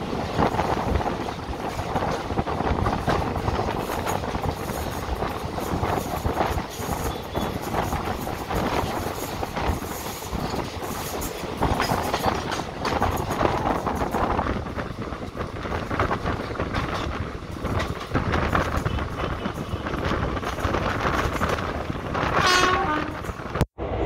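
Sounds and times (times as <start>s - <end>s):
track clicks and clatter: 0.0s - 22.4s
train wheels rumbling on rails: 0.0s - 24.0s.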